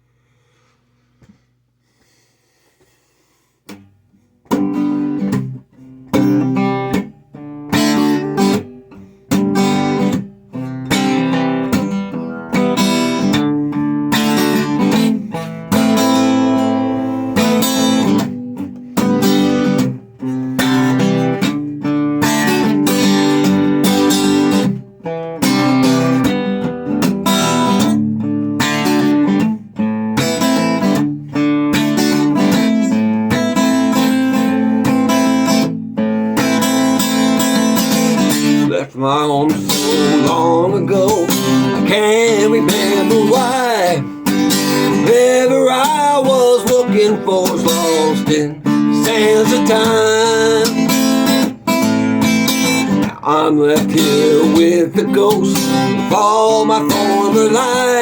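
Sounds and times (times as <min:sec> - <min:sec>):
acoustic guitar strumming chords: 0:03.7 - 0:58.0.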